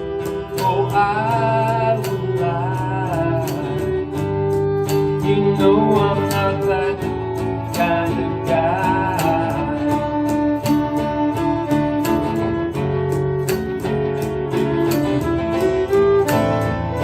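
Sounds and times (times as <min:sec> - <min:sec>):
sliding lead melody: 0:00.0 - 0:17.0
strummed acoustic guitar: 0:00.0 - 0:17.0.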